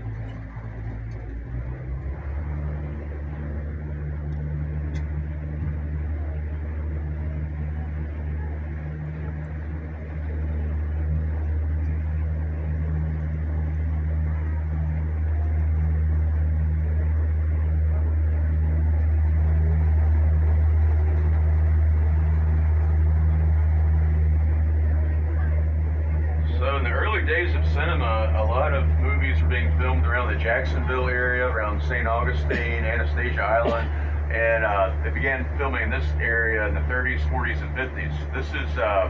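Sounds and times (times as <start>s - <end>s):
boat motor droning: 0.0s - 39.0s.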